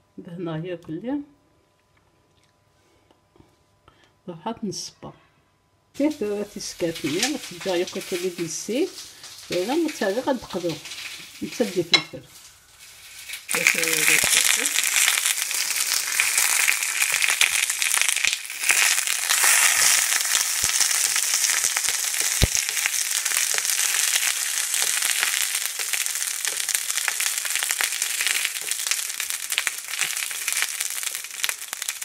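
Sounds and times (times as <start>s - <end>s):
peppers sizzling in hot oil: 6.0s - 32.0s.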